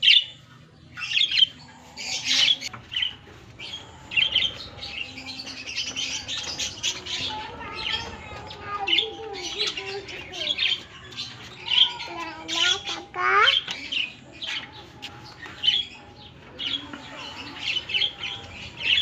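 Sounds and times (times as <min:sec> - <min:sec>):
parrots chattering and chirping: 0:00.0 - 0:19.0.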